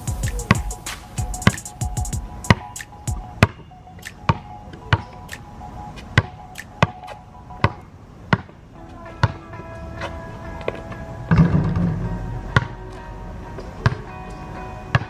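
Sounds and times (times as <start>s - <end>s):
background music held tones: 0.0s - 15.0s.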